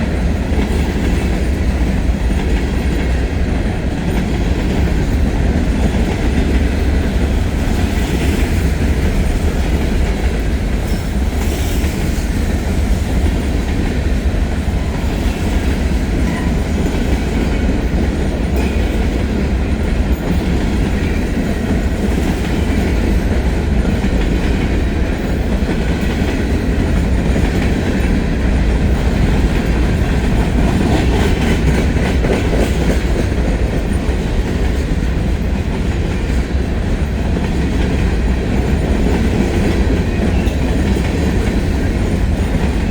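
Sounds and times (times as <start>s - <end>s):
clickety-clack over rail joints: 0.0s - 42.9s
freight train wheels rumbling: 0.0s - 42.9s.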